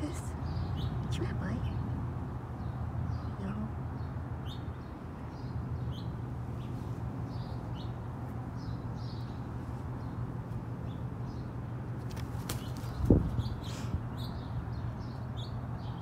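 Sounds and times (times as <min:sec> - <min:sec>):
small songbirds chirping: 0:00.0 - 0:16.0.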